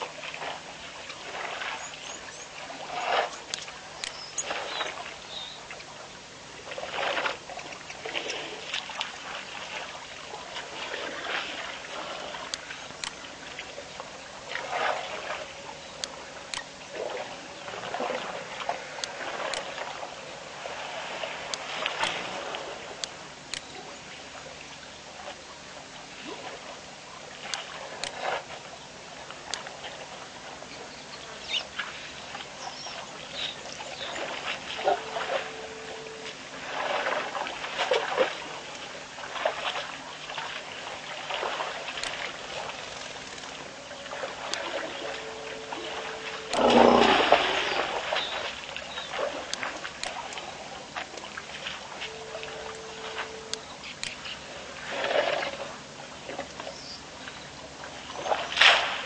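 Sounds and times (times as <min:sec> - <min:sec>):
water splashing: 0:00.0 - 0:59.0.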